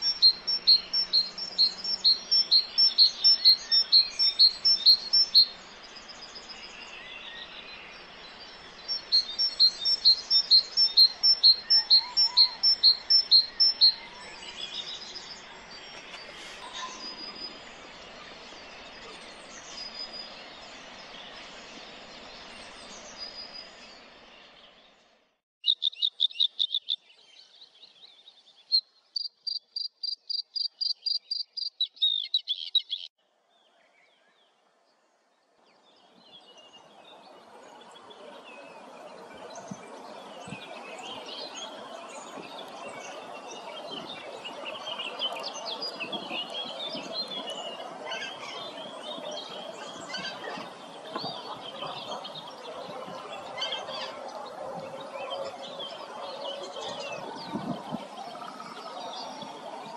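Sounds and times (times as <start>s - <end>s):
birds singing and calling: 0.0s - 24.9s, 25.6s - 33.1s, 35.9s - 59.9s
dense bird chorus: 0.0s - 59.9s.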